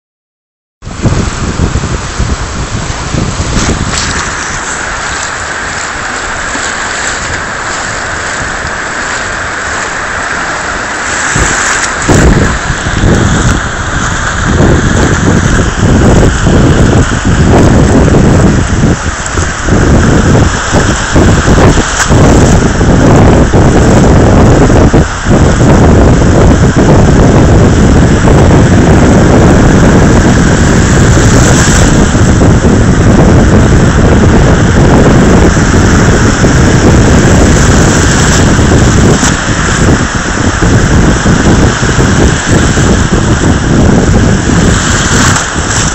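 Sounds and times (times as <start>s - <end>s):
surf washing: 0.8s - 45.9s
wind buffeting microphone: 0.8s - 45.9s.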